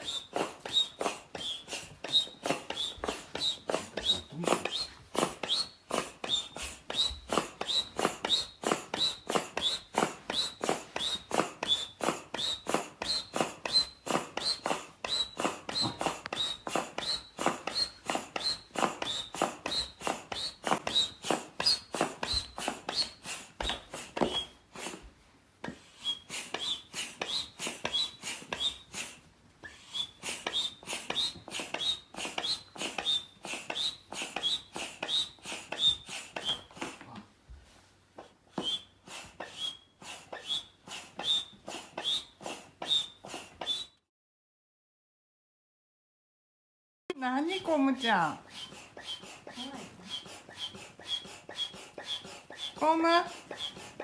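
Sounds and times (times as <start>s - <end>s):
air pump strokes: 0.0s - 44.0s, 47.2s - 54.0s.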